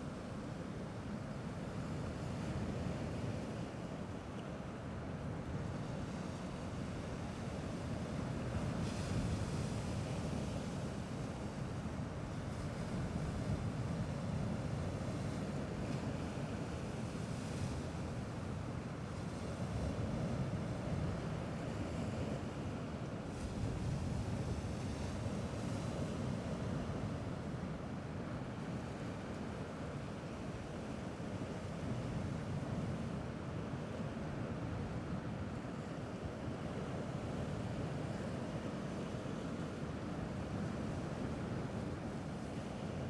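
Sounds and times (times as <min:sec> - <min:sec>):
sea waves washing on shore: 0:00.0 - 0:43.0.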